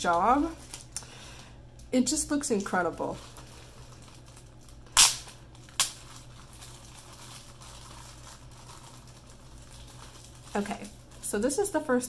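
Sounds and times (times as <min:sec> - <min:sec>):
cellophane wrapper crackling: 0:00.0 - 0:01.1, 0:02.5 - 0:12.0.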